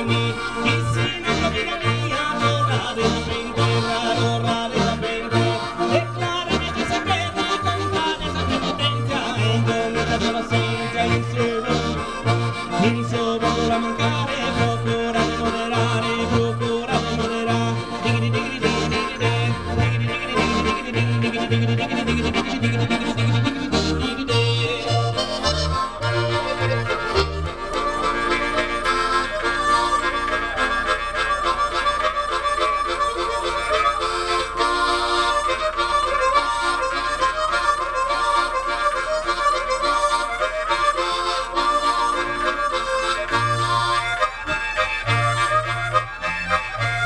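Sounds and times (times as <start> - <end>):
accordion bass notes: 0.0 - 47.0.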